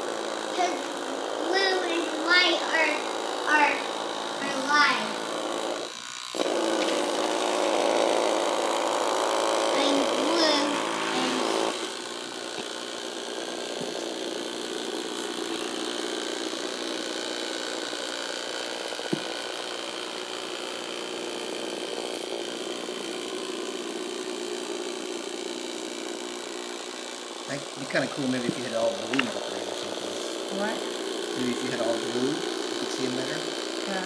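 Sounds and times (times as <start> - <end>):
small motor buzzing: 0.0 - 34.0.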